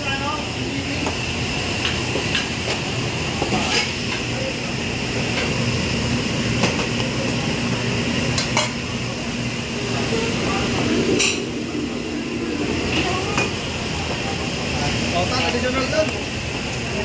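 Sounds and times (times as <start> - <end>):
wok range and hood roaring: 0.0 - 17.0.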